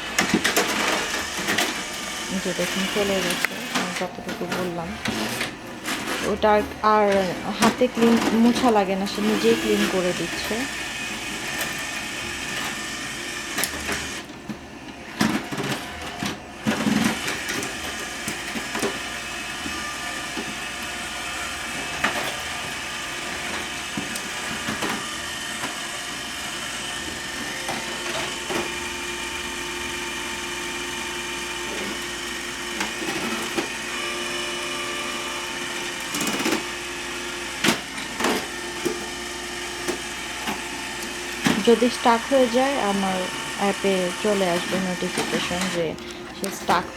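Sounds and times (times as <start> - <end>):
robot vacuum motor whine: 0.0 - 46.9.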